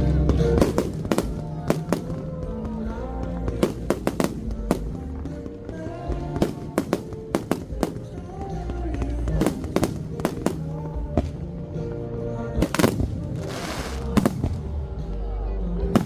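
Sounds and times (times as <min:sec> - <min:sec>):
fireworks bursting: 0:00.0 - 0:14.9
music over loudspeakers: 0:00.0 - 0:16.0.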